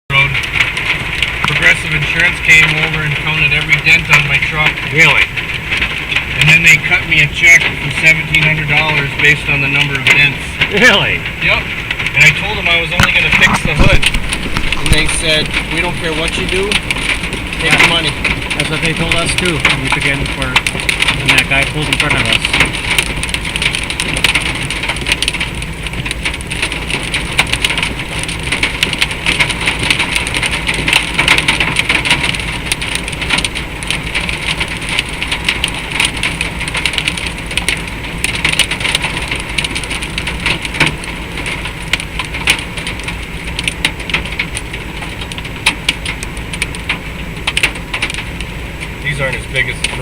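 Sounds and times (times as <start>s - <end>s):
hailstones clicking on hard surfaces: 0.1s - 50.0s
hiss of falling hail: 0.2s - 50.0s.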